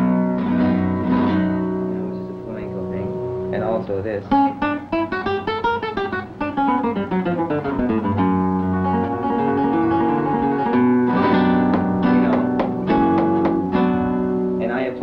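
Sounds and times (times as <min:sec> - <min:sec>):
flamenco guitar fingerstyle: 0:00.0 - 0:15.0.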